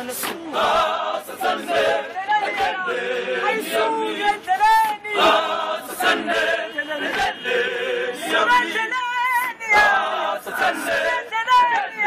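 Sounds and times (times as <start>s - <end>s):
men singing a cappella: 0.0s - 12.0s.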